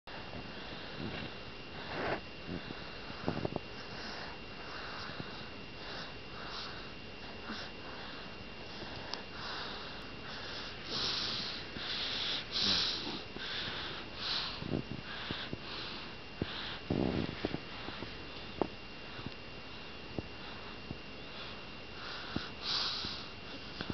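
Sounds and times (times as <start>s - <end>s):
baby breathing and sniffing: 0.5s - 18.2s, 21.3s - 23.9s.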